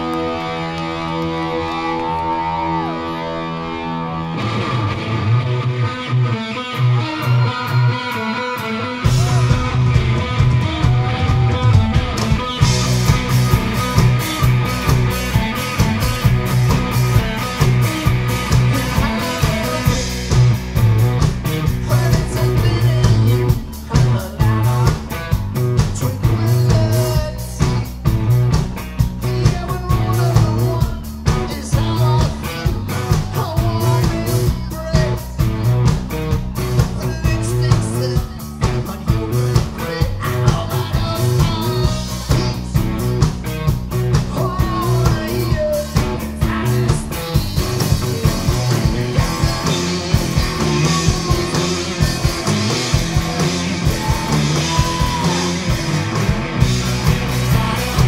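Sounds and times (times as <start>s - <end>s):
electric guitar riff: 0.0s - 58.0s
live hard rock band: 0.0s - 58.0s.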